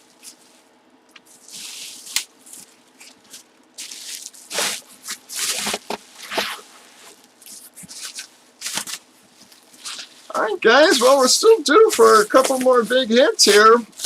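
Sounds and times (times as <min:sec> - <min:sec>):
packaging rustling: 0:00.1 - 0:14.0.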